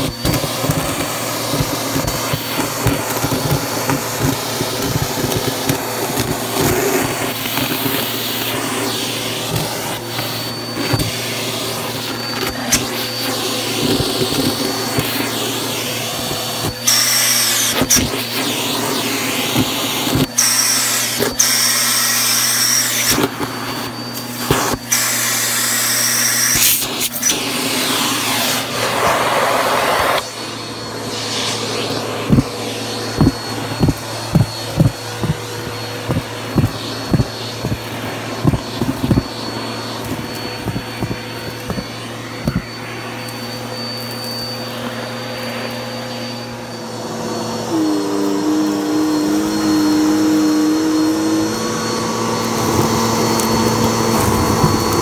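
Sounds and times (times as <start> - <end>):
steady whine: 0.0 - 55.0
vacuum cleaner running: 0.0 - 55.0.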